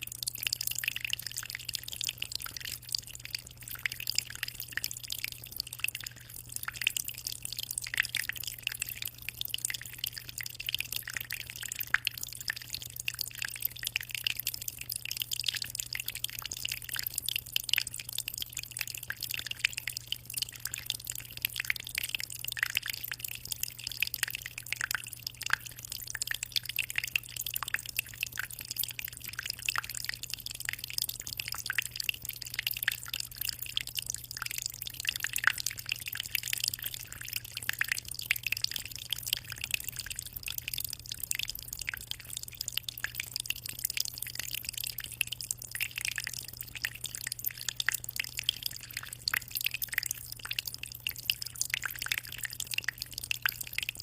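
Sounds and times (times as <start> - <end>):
water trickling and dripping: 0.0 - 54.0.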